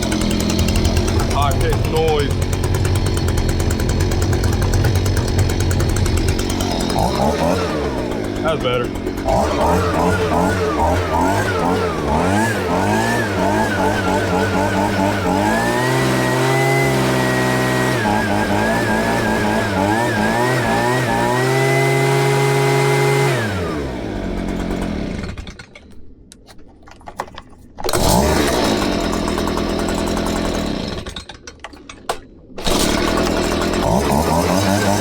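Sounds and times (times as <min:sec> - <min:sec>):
leaf blower engine revving: 0:00.0 - 0:25.6, 0:27.9 - 0:31.3, 0:32.6 - 0:35.0.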